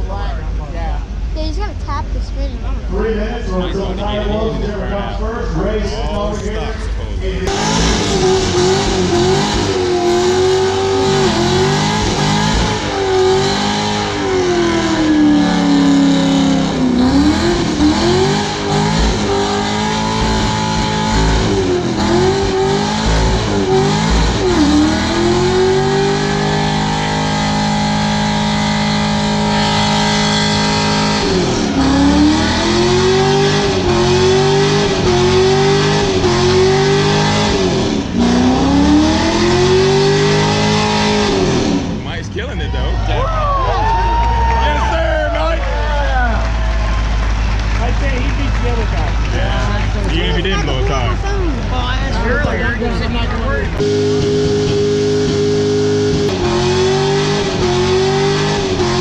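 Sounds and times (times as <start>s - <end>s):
car engine revving high: 0.0s - 59.0s
spinning tires hissing: 2.9s - 49.5s, 50.1s - 59.0s.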